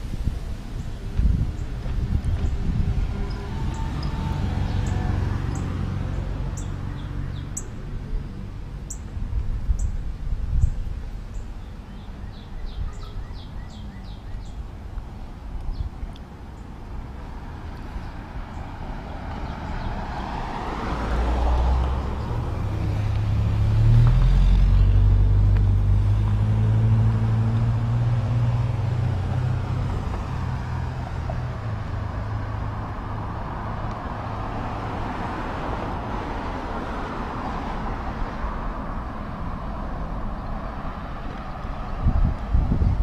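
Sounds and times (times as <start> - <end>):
cars rushing past: 0.0 - 43.0
heavy vehicle engine hum: 0.0 - 43.0.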